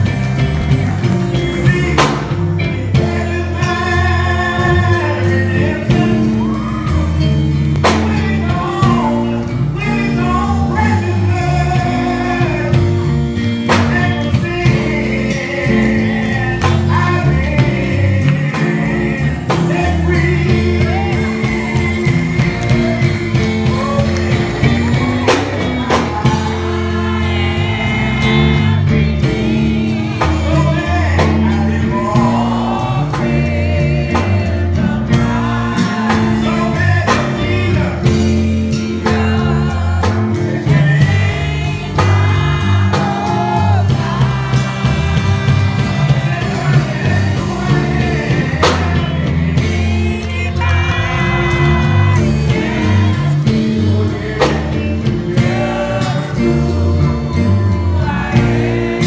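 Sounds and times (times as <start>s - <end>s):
instrumental accompaniment: 0.0s - 59.0s
man singing through microphone: 0.0s - 59.0s
steady bass line: 0.0s - 59.0s.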